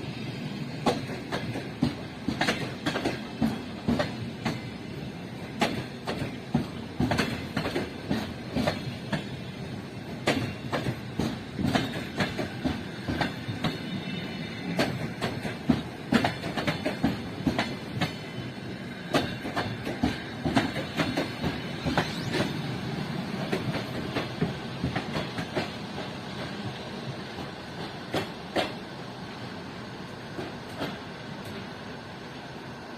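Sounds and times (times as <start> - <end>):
train wheels clacking: 0.8 - 22.6, 23.3 - 29.0, 30.3 - 31.7.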